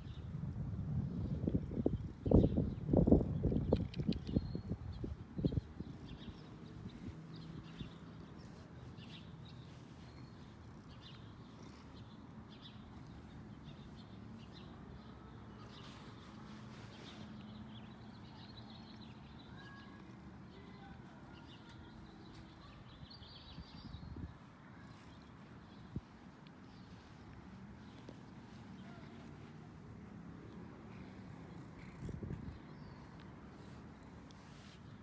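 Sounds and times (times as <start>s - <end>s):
birds chirping: 1.3s - 35.0s.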